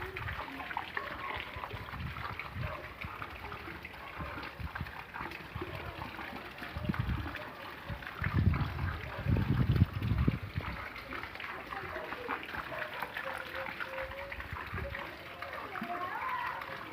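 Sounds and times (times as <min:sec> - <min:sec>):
rainwater trickling and splashing: 0:00.0 - 0:16.9.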